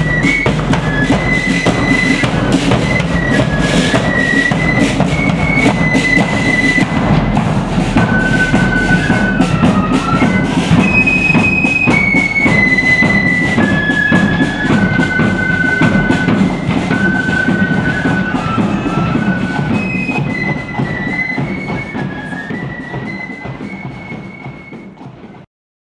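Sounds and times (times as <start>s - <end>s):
bass drum and side drums: 0.0s - 25.4s
flute band playing a tune: 0.0s - 25.5s.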